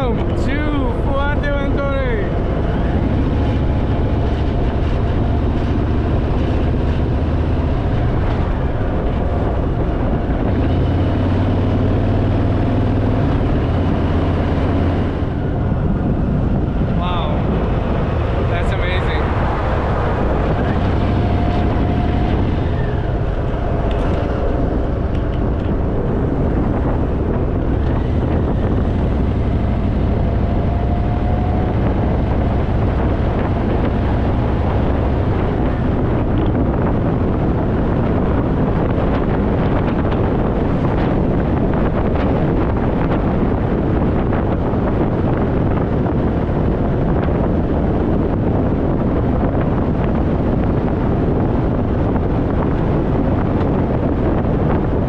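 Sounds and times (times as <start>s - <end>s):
wind rushing over microphone: 0.0s - 55.0s
motorcycle engine running: 2.3s - 55.0s.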